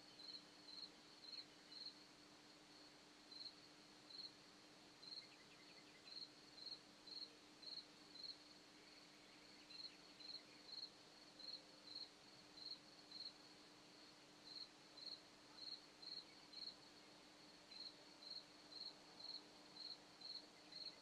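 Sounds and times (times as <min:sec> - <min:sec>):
cricket chirping: 0:00.1 - 0:02.1, 0:02.7 - 0:04.4, 0:05.0 - 0:13.4, 0:14.0 - 0:21.0.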